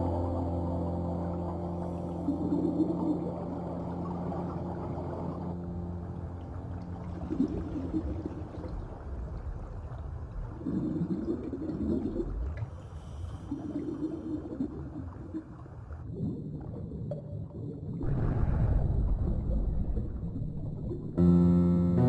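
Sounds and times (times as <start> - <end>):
low underwater rumble: 0.0 - 13.2, 13.8 - 21.5
underwater air bubbles gurgling: 0.0 - 21.2.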